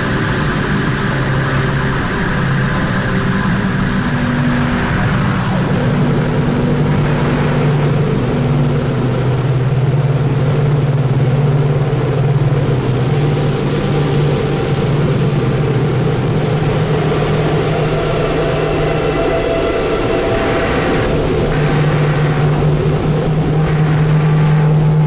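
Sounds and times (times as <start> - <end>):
droning noise music: 0.0 - 25.0.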